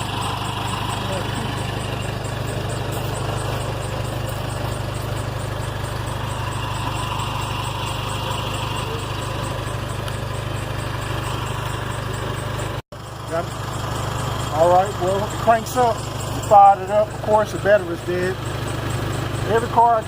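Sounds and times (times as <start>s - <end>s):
car engine idling: 0.0s - 20.0s
fast high ticking: 0.0s - 20.0s.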